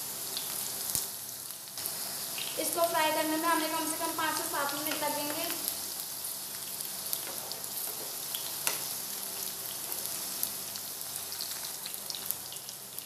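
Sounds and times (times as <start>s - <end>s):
vegetables frying in hot oil: 0.0s - 13.0s.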